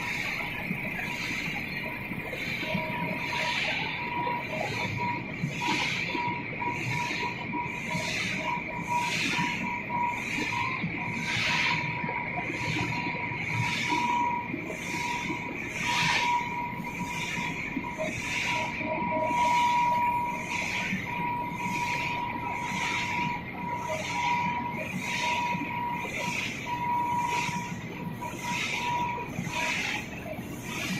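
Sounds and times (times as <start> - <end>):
machinery whine: 0.0 - 30.9.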